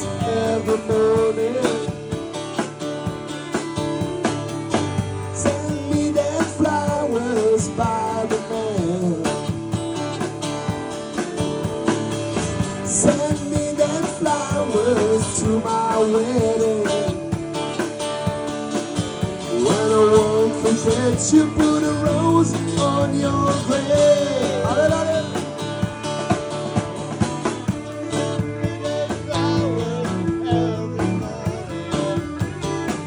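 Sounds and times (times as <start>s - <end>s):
acoustic and electric guitars: 0.0s - 33.0s
drum kit with cymbals: 0.0s - 33.0s.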